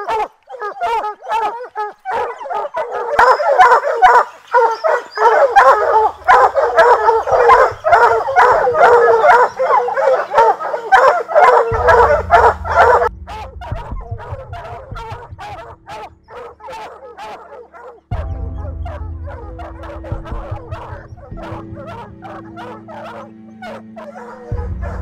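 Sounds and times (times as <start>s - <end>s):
pack of hounds baying: 0.0s - 25.0s.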